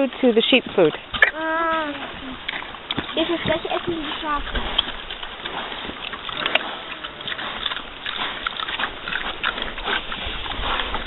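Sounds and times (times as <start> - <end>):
pigs chewing with crunches: 0.0 - 11.0.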